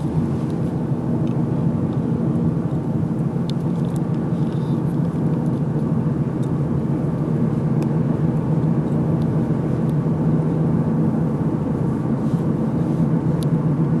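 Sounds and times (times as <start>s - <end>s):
car driving low rumble: 0.0s - 14.0s.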